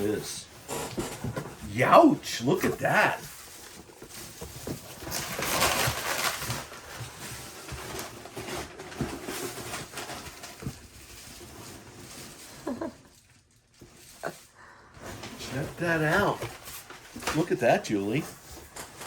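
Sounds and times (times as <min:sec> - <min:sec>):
packaging rustling: 0:00.2 - 0:19.0.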